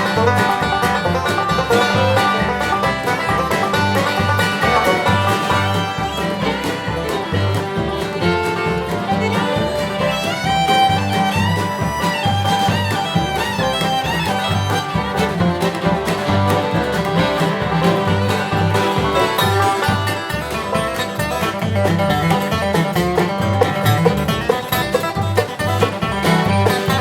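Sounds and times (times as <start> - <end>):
banjo: 0.0 - 27.0
bass beat: 0.0 - 27.0
fiddle melody: 0.0 - 27.0
guitar: 0.0 - 27.0.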